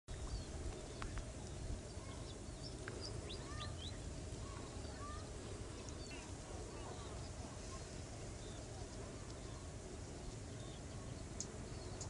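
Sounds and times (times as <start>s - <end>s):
faint low rumble: 0.1s - 12.0s
small birds chirping: 0.1s - 12.0s.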